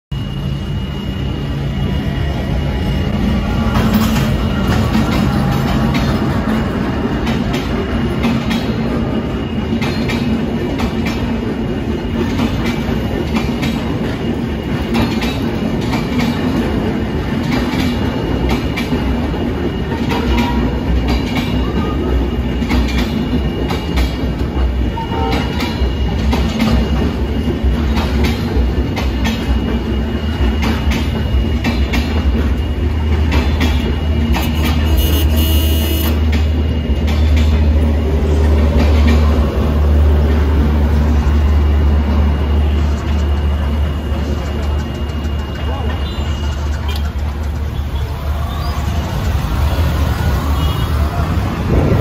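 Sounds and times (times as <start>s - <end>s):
low train rumble: 0.1s - 52.0s
train wheels clacking over rail joints: 3.5s - 52.0s.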